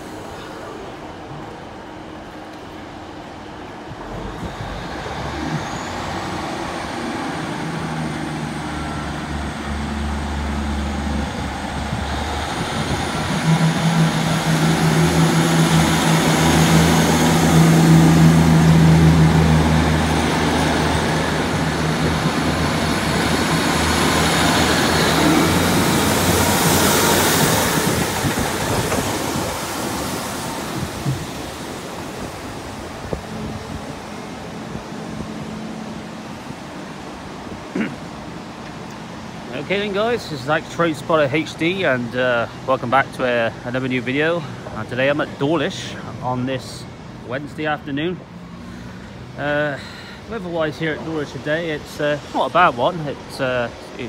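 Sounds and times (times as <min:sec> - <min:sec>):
diesel train passing: 0:00.0 - 0:54.0.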